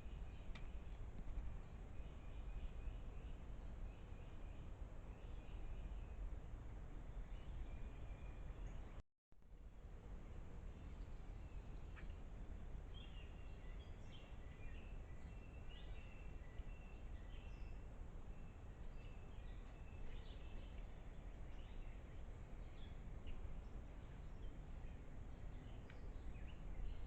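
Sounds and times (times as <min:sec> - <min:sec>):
wild birds chirping: 0:00.0 - 0:06.4, 0:07.0 - 0:09.0, 0:10.6 - 0:27.0
low outdoor rumble: 0:00.0 - 0:27.0.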